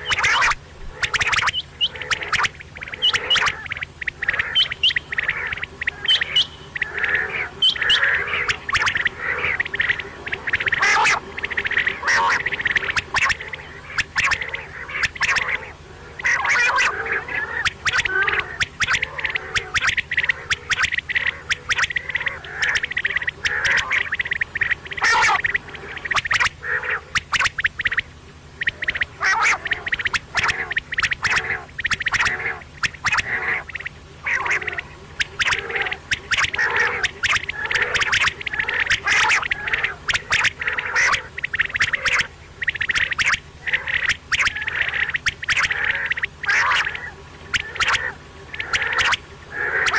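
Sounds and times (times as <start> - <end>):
faint low hum: 0.0 - 49.9
quail calling in rattling bursts: 0.0 - 49.9.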